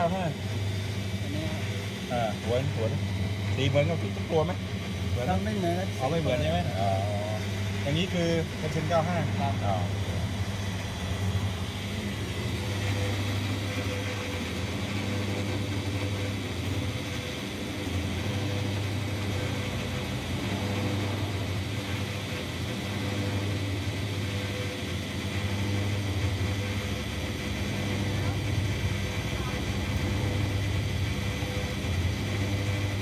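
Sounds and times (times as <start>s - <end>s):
electric pump motor humming: 0.0s - 33.0s.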